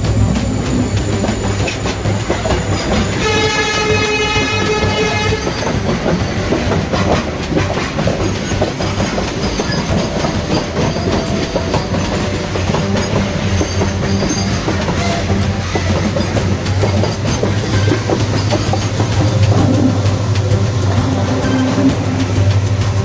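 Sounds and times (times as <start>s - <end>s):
train rumble: 0.0s - 23.0s
train wheels clicking on rails: 0.0s - 23.0s
train horn blast: 1.7s - 23.0s.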